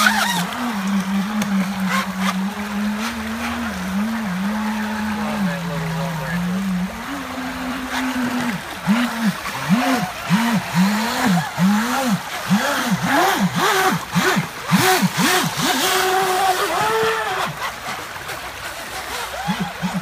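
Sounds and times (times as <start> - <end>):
model boat motors revving whine: 0.0 - 20.0
rushing shallow river water: 0.0 - 20.0.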